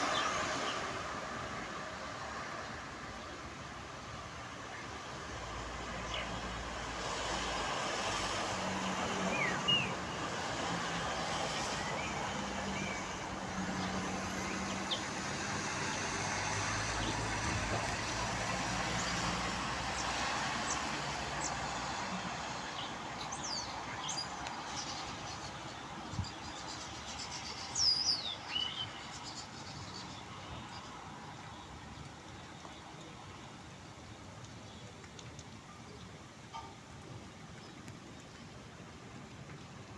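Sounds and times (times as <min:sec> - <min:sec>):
road traffic: 0:00.0 - 0:35.0
rain hiss: 0:00.0 - 0:39.9.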